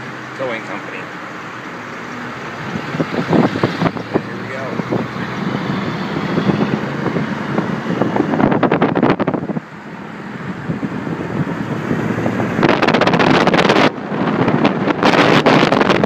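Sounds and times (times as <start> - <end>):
tyres rushing on wet road: 0.0 - 16.0.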